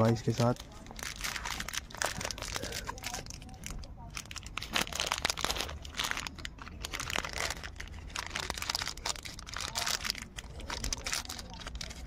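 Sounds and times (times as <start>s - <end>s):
packing wrap crinkling: 0.0s - 12.0s.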